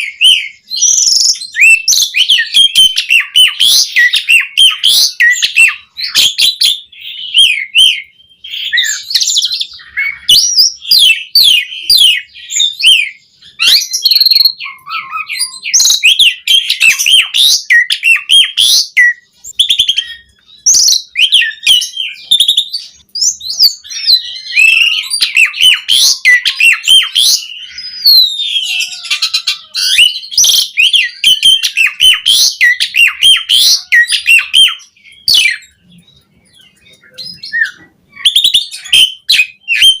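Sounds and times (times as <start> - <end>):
starling singing: 0.0 - 40.0.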